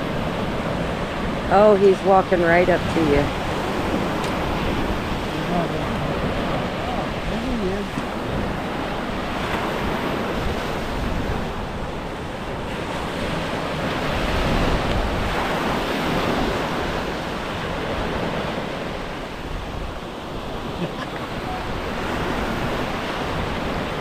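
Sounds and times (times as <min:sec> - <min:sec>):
waves rushing: 0:00.0 - 0:24.0
wind buffeting microphone: 0:00.0 - 0:24.0.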